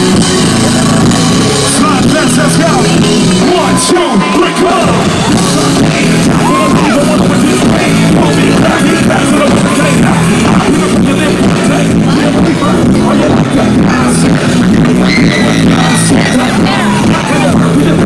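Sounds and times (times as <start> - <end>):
person singing: 1.6 - 18.0.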